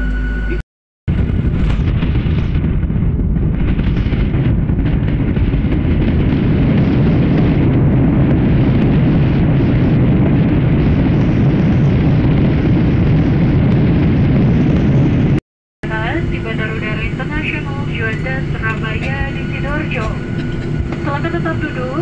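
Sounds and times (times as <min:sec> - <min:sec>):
jet engines and wheels rumbling: 0:00.0 - 0:22.0.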